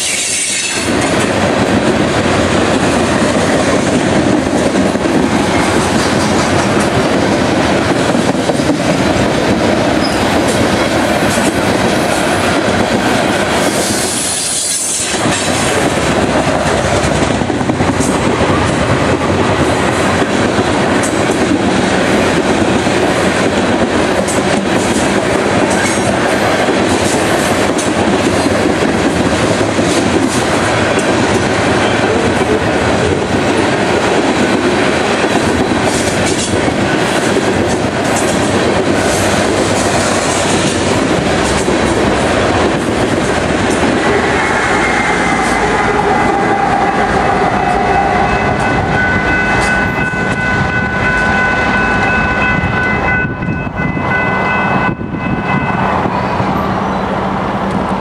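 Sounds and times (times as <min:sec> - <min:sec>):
wheels clacking over rail joints: 0:00.0 - 0:46.7
train wheels rumbling on rails: 0:00.0 - 0:58.0.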